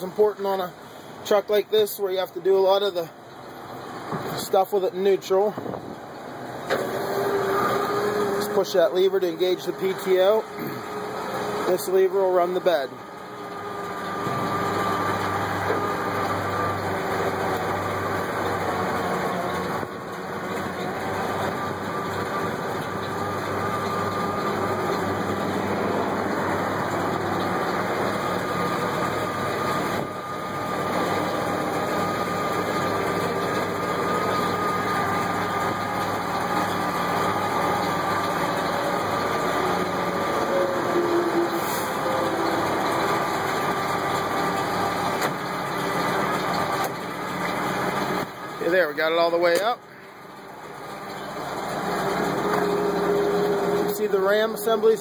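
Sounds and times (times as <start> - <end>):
hydraulic pump: 0.0 - 55.0
truck engine running: 0.0 - 55.0.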